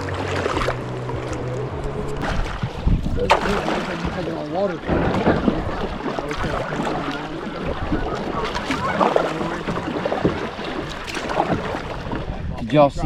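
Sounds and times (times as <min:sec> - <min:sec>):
moving water: 0:00.0 - 0:13.0
wind rumbling on microphone: 0:00.0 - 0:13.0.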